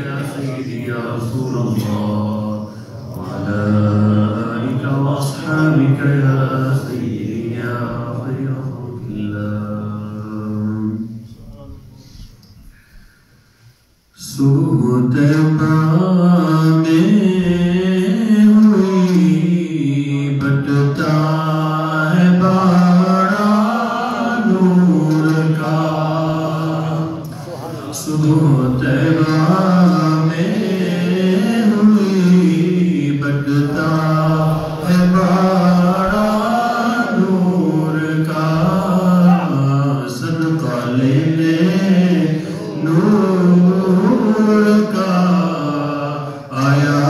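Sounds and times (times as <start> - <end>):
man chanting through a microphone: 0.0 - 12.8, 14.2 - 47.0.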